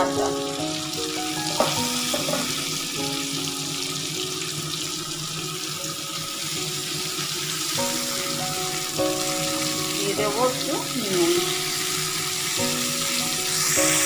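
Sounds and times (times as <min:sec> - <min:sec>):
vegetables frying in oil: 0:00.0 - 0:14.0.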